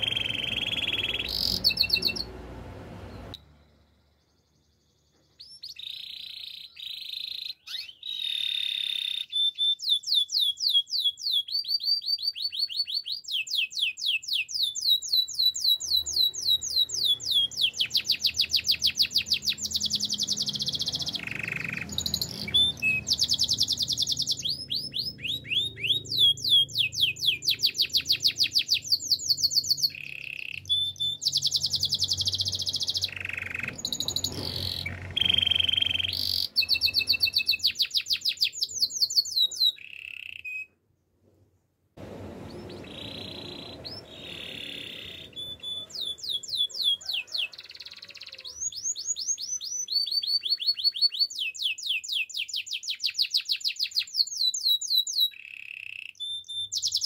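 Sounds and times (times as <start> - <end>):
canary singing: 0.0 - 40.8, 42.0 - 57.0.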